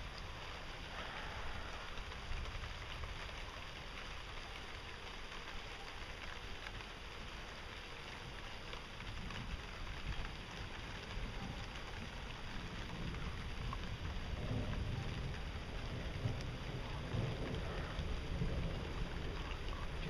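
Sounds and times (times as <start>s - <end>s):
wind rumbling on microphone: 0.0s - 5.4s, 6.2s - 20.0s
rain falling: 0.0s - 20.0s.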